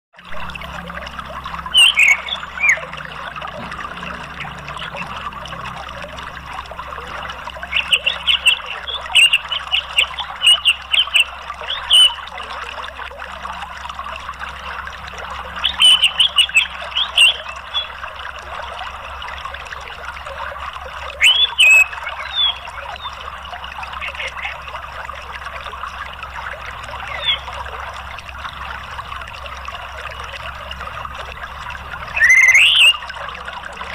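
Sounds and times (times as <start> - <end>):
running water rushing: 0.2 - 33.9.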